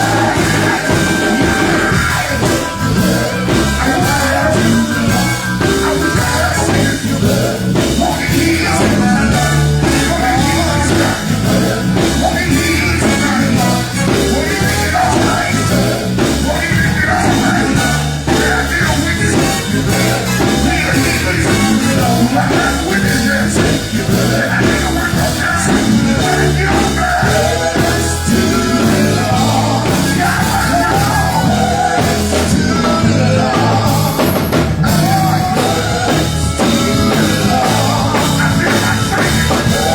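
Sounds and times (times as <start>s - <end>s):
gospel band playing: 0.0s - 39.9s
voices singing: 0.0s - 39.9s.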